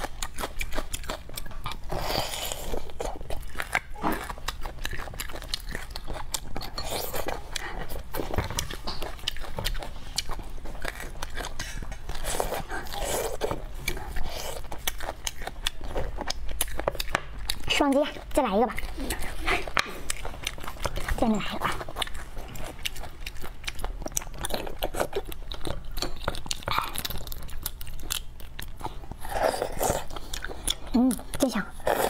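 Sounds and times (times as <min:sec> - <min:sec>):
person chewing and mouth sounds: 0:00.0 - 0:32.0.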